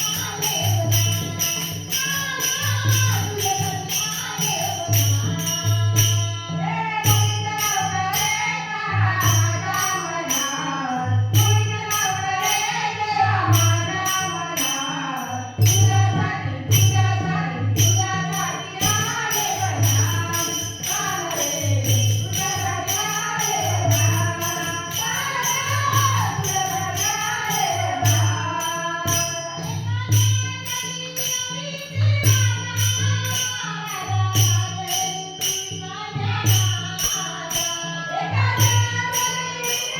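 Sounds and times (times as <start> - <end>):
jingling hand percussion: 0.0 - 39.9
woman singing folk song: 6.5 - 39.9.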